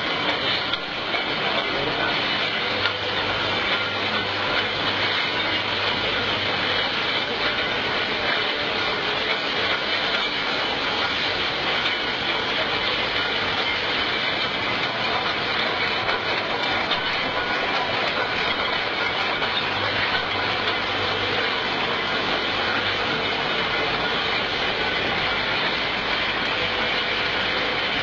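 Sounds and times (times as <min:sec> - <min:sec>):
bottling machine clattering: 0:00.0 - 0:28.0.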